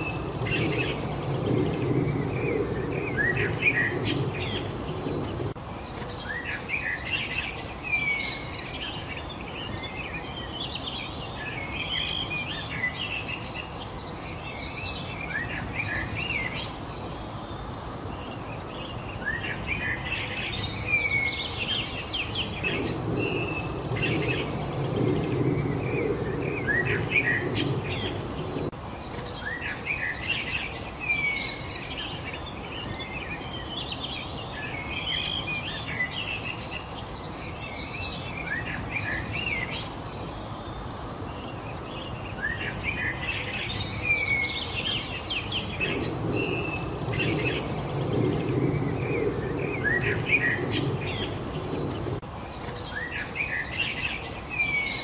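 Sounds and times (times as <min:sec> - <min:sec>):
low rushing noise: 0:00.0 - 0:30.8, 0:32.0 - 0:54.0
songbirds chirping and trilling: 0:00.0 - 0:55.0.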